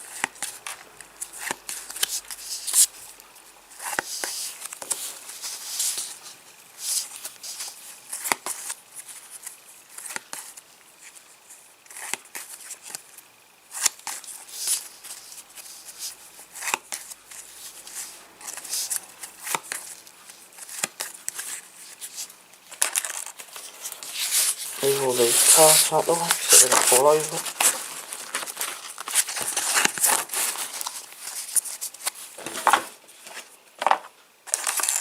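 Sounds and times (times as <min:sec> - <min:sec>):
trading cards rustling and clicking: 0:00.0 - 0:03.0, 0:03.8 - 0:11.2, 0:13.7 - 0:35.0.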